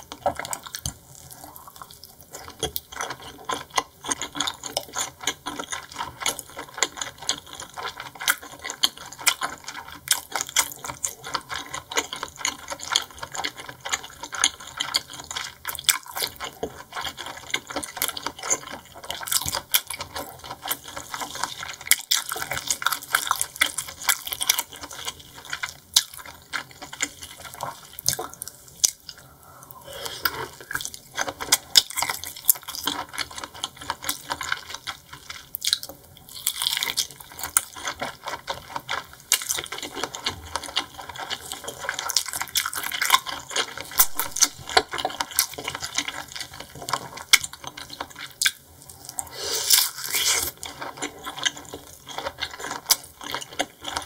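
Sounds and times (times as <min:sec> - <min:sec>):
wet chewing and mouth sounds: 0:00.0 - 0:54.0.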